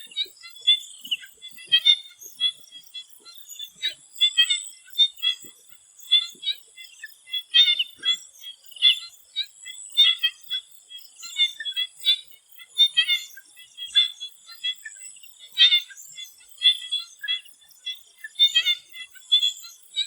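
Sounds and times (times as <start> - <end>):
frogs croaking: 0.0 - 20.0.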